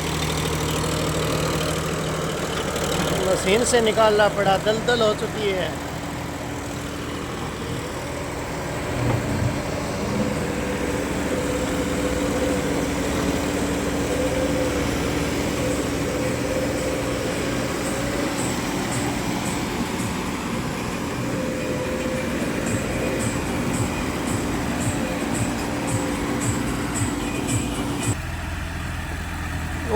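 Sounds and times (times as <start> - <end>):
diesel tractor engine running: 0.0 - 29.9.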